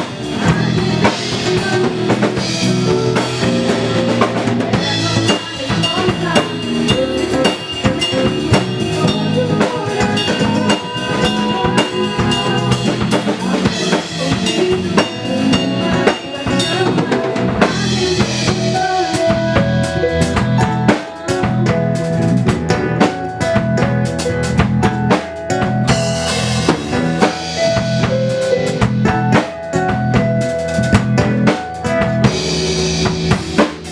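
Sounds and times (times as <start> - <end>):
drum kit beat: 0.0 - 33.9.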